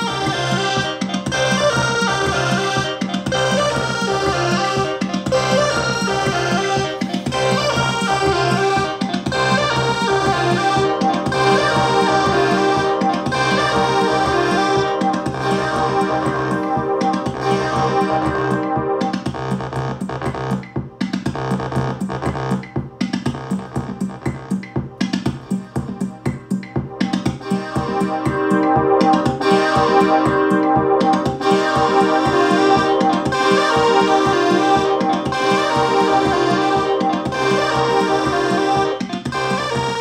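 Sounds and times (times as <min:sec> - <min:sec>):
electronic drum beat: 0:00.0 - 0:40.0
synth bass and keys: 0:00.0 - 0:40.0.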